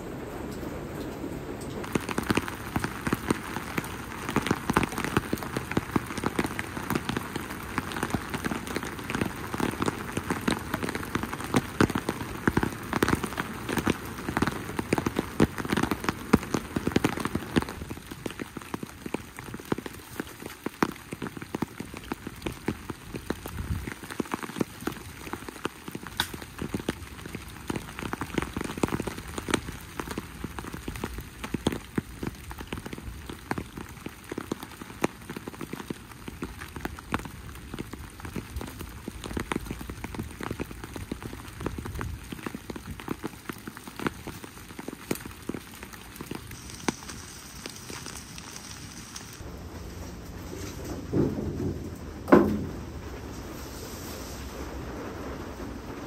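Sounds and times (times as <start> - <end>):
rain falling: 0.0 - 56.0
raindrops pattering: 0.0 - 56.0.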